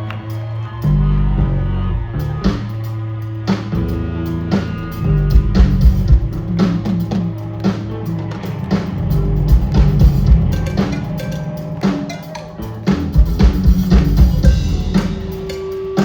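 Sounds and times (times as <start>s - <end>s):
bass guitar: 0.0s - 16.0s
steady drum beat: 2.2s - 16.0s.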